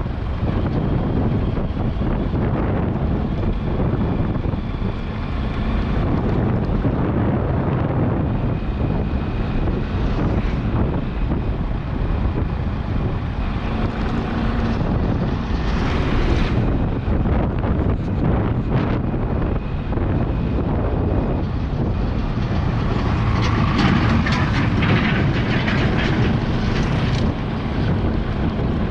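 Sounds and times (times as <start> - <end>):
vehicle running: 0.0 - 28.9
wind rumble on microphone: 0.0 - 28.9.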